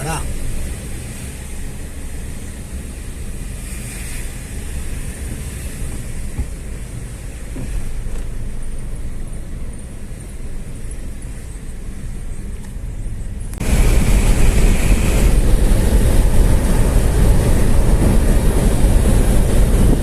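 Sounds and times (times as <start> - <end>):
vehicle engine and tyres rumbling: 0.0 - 20.0
wind hiss: 0.0 - 20.0.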